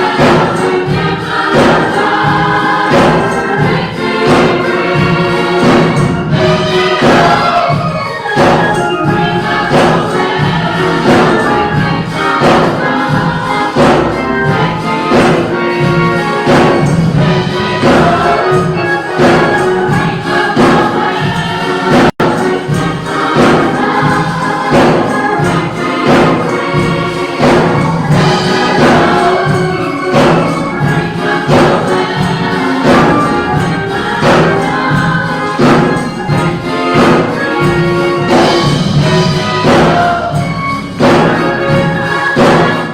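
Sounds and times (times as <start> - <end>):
gospel choir singing: 0.0 - 42.9
instrumental accompaniment with beat: 0.0 - 42.9.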